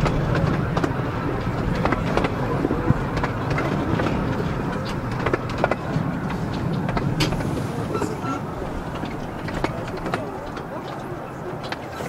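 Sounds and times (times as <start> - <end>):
miniature train rumbling: 0.0 - 12.0
wheels clicking on rails: 0.0 - 12.0.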